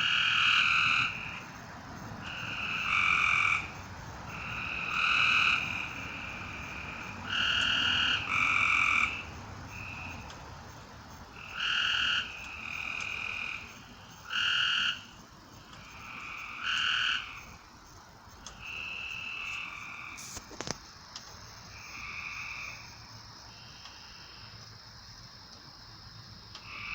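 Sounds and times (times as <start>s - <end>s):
frogs calling: 0.0s - 26.9s.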